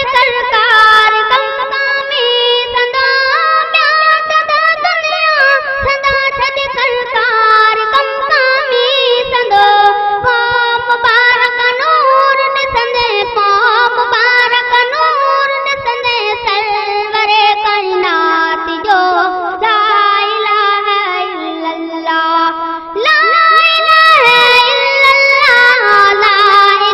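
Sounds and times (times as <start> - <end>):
boy singing devotional song: 0.0 - 26.9.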